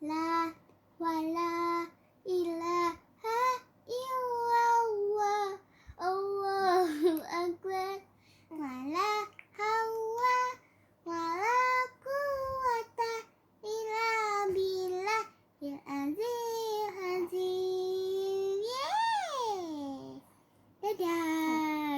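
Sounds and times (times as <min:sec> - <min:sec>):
girl singing a devotional chant: 0:00.0 - 0:18.9, 0:20.8 - 0:21.9.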